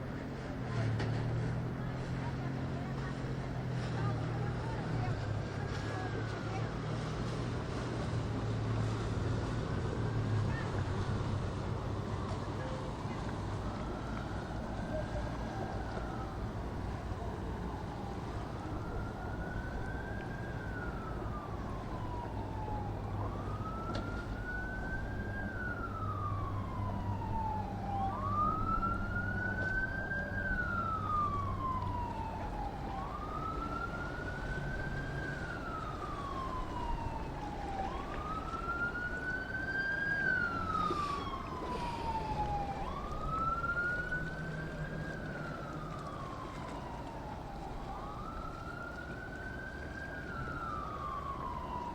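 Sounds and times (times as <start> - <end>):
emergency siren wailing: 0.0 - 51.9
low engine hum: 0.0 - 51.9.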